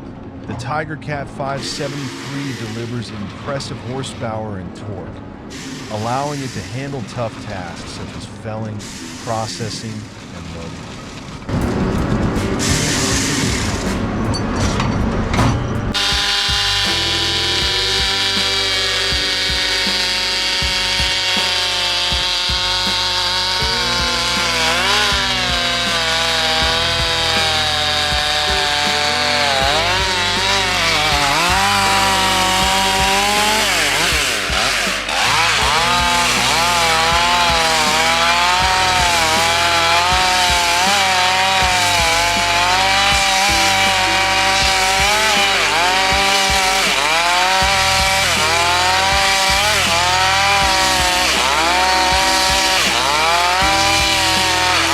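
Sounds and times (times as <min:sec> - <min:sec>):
power saw cutting timber: 0:01.6 - 0:04.2, 0:05.5 - 0:14.3, 0:15.9 - 0:54.9.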